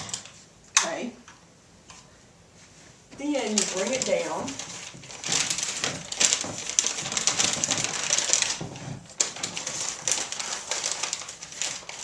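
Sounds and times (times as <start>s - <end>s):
paper rustling and crinkling: 2.0s - 12.0s.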